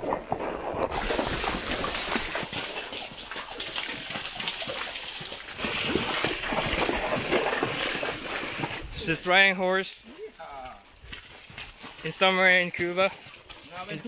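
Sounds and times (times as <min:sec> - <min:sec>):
horse hooves on dirt: 0:00.0 - 0:14.0.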